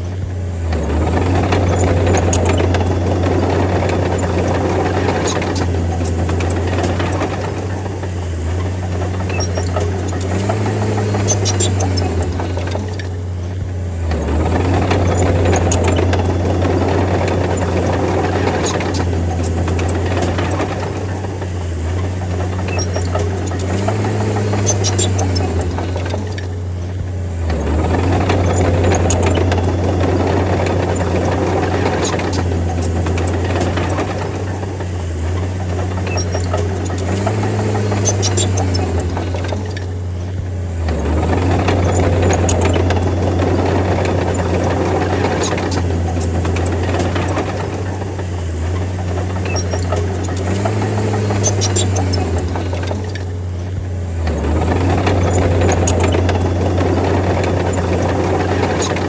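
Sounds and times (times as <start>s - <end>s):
bulldozer diesel engine under load: 0.0s - 59.0s
rattling clicks: 0.0s - 59.0s.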